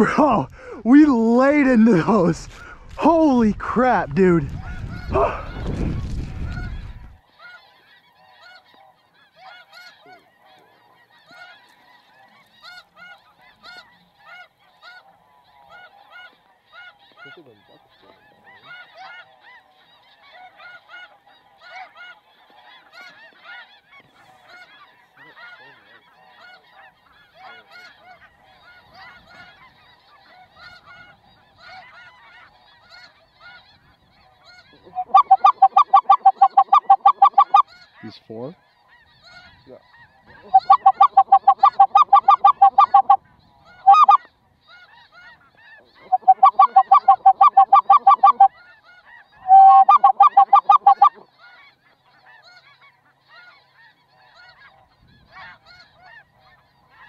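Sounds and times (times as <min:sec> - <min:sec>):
geese honking in flight: 0:00.0 - 0:05.7, 0:06.4 - 0:57.0.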